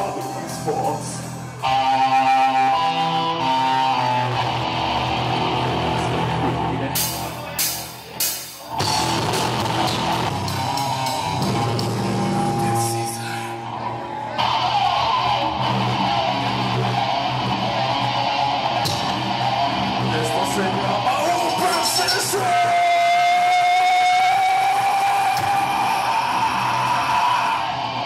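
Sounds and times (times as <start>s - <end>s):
metal band playing live: 0.0s - 28.0s.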